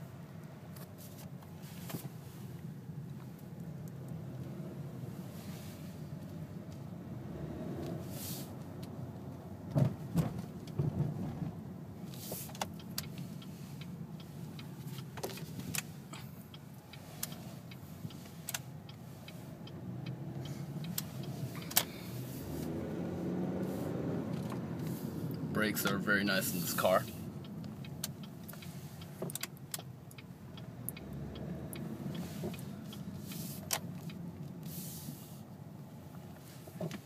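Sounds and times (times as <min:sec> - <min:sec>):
car engine and road hum: 0:00.0 - 0:37.0.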